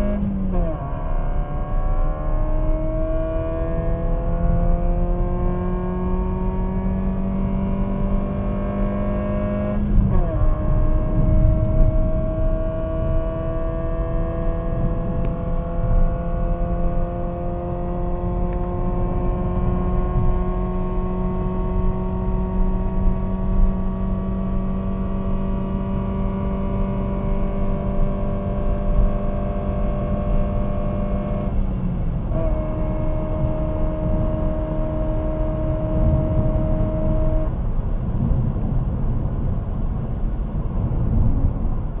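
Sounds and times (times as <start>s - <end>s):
car engine at high revs: 0.0s - 42.0s
road and wind rumble: 0.0s - 42.0s.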